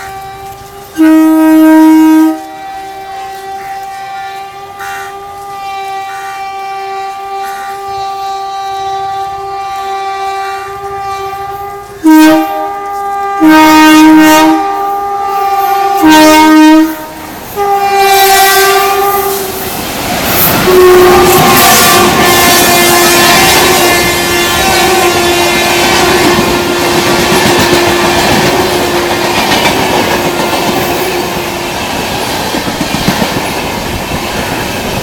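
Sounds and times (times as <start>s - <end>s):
train horn blasts: 0.0s - 19.7s, 20.3s - 32.3s
passing train rattle: 0.0s - 35.0s.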